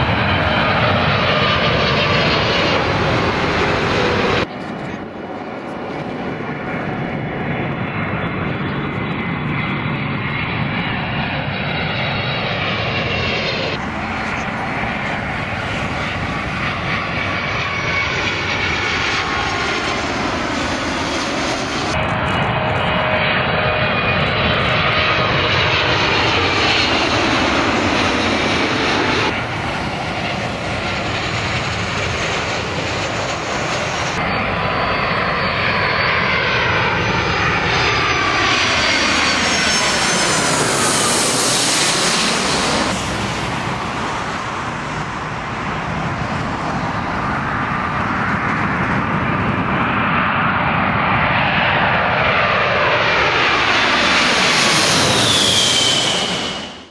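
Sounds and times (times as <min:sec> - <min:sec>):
jet airliners passing overhead: 0:00.0 - 0:56.9.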